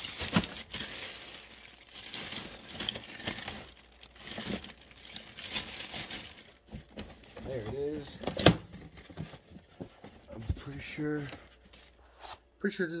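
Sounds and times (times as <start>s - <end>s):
hands rummaging through car parts: 0.0s - 11.9s.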